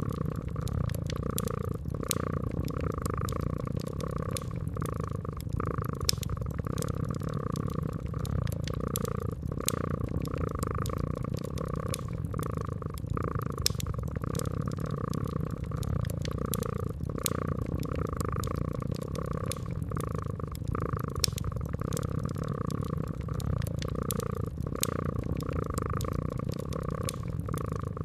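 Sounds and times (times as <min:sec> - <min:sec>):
cat purring: 0:00.0 - 0:28.0
wood fire crackling: 0:00.0 - 0:28.0.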